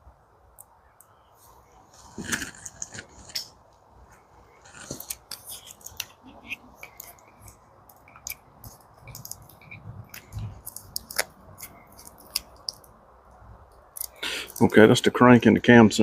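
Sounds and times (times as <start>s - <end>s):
wiring harnesses crinkling: 1.8s - 15.0s.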